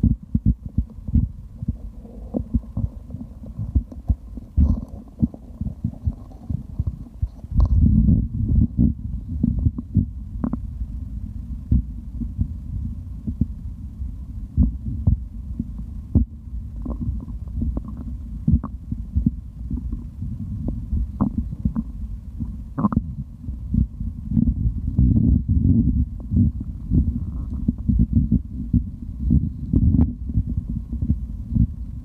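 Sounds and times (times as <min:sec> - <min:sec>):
stomach gurgling and rumbling: 0:00.0 - 0:32.0.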